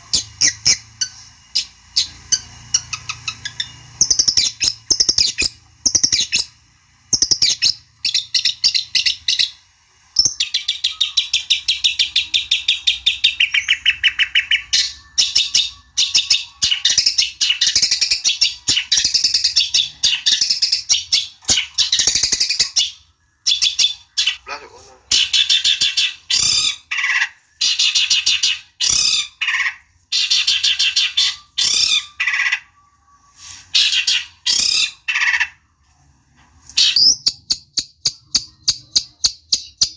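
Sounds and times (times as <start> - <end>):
shrike scratchy chattering song: 0.0 - 9.6, 10.2 - 32.8.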